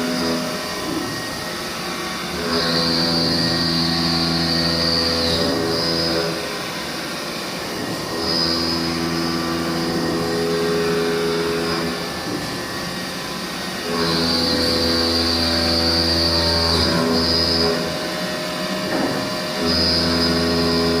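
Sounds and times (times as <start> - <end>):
high machine whine: 0.0 - 21.0
machine motor hum: 0.0 - 21.0.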